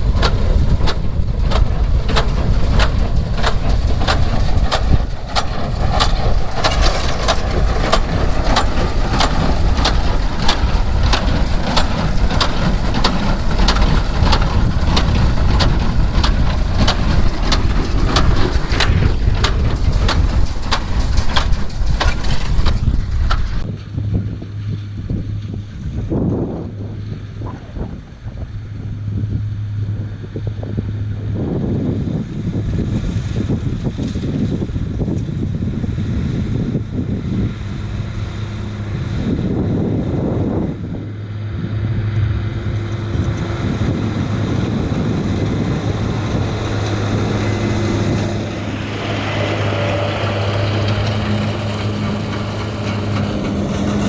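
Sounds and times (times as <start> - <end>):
tractor engine rumble: 0.0 - 26.0, 26.8 - 54.0.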